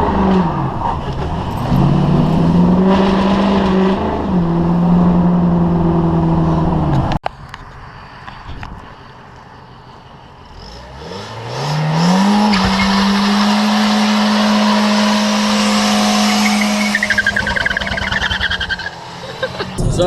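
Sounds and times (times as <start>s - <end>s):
car engine revving: 0.0s - 7.2s, 10.5s - 20.0s.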